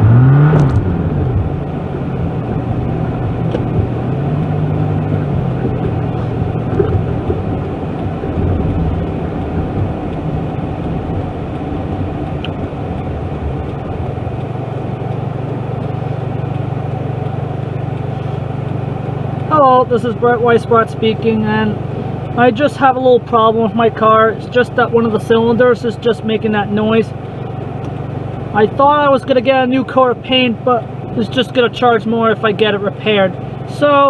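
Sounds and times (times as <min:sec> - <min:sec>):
car engine running from inside cabin: 0:00.0 - 0:34.0.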